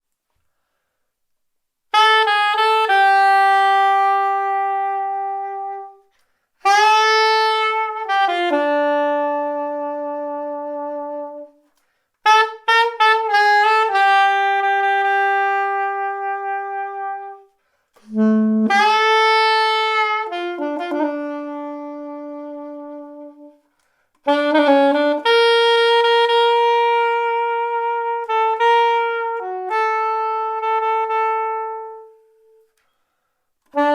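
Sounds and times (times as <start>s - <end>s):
soprano saxophone jazz melody: 1.8s - 33.9s.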